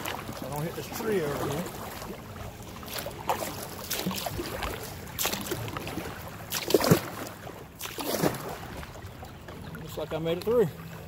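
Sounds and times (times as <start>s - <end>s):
fast river current: 0.0s - 11.0s
kayak paddle splashing: 0.0s - 11.0s.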